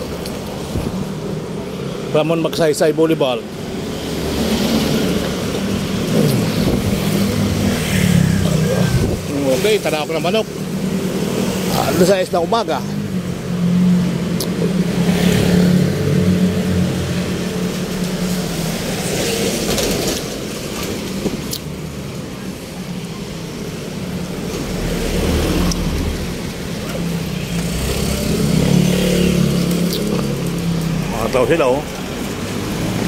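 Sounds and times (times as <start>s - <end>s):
vehicle engines running: 0.0s - 33.0s.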